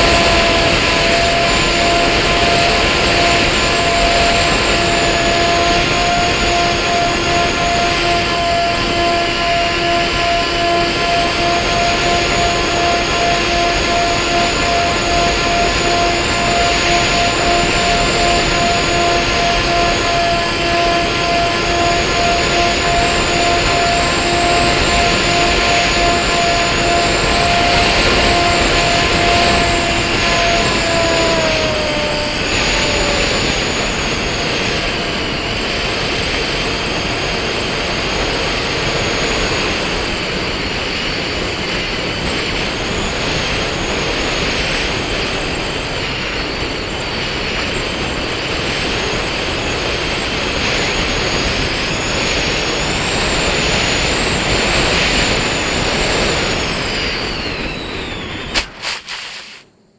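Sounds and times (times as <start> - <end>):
wind rush: 0.0 - 59.7
model airplane motor whine: 0.0 - 59.9.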